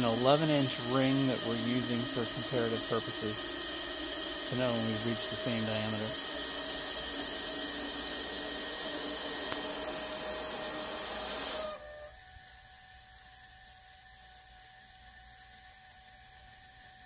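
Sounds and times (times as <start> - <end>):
steady hiss of flow-test rig: 0.0 - 17.0.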